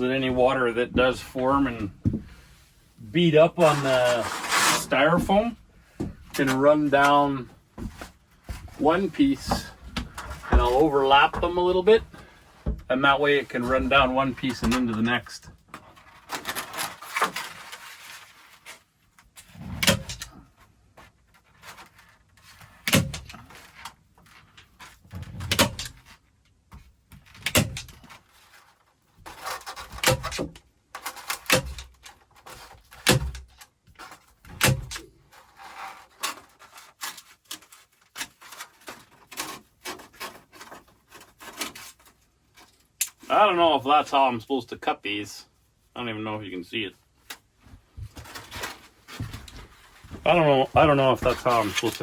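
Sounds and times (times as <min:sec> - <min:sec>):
foam pieces rustling and scraping: 0:01.2 - 0:26.4, 0:27.2 - 0:43.5, 0:48.2 - 0:52.0.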